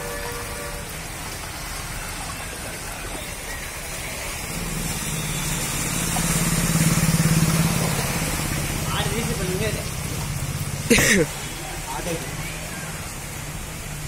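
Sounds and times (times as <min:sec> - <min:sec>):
heavy rain and flowing water: 0:00.0 - 0:14.0
motorcycle riding through water: 0:00.0 - 0:14.0.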